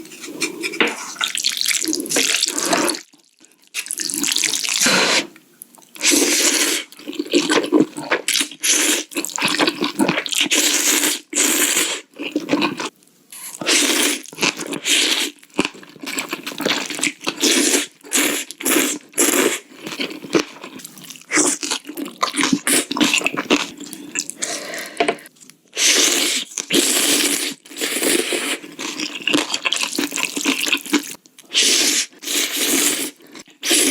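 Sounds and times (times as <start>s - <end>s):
person slurping noodles: 0.0s - 3.1s, 3.8s - 5.3s, 6.0s - 15.4s, 16.2s - 29.1s, 30.0s - 33.9s.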